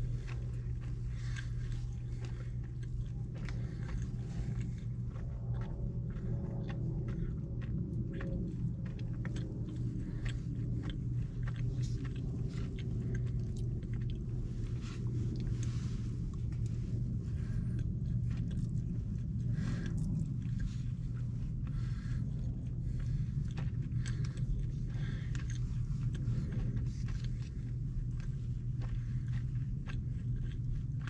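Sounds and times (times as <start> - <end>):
low hum: 0.0 - 31.0
person chewing food: 0.0 - 31.0.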